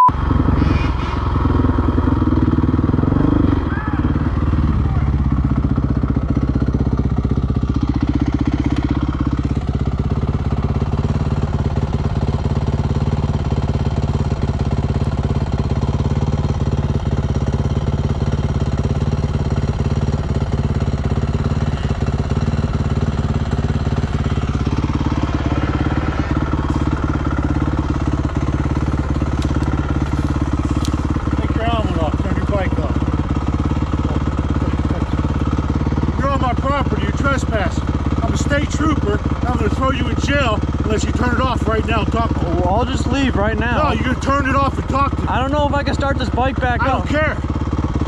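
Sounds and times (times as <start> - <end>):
dirt bike engine running: 0.0 - 48.0.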